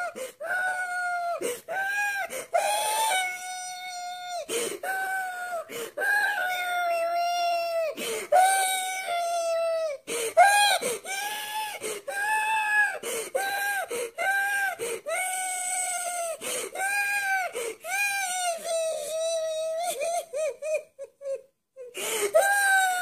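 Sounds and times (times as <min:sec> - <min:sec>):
man crying in high wails: 0:00.0 - 0:23.0.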